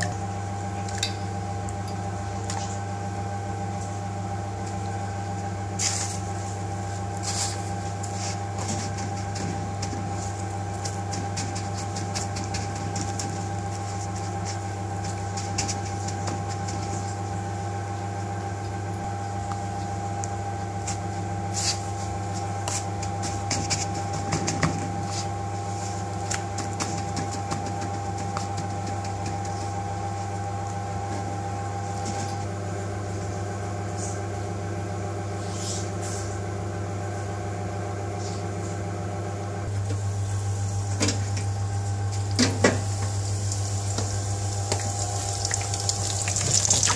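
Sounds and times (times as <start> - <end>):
kitchen machinery humming: 0.0 - 46.9.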